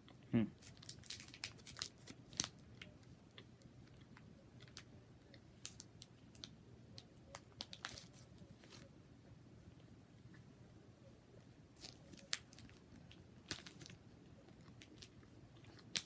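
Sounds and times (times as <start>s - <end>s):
quiet chewing: 0.0s - 8.9s, 11.4s - 16.0s.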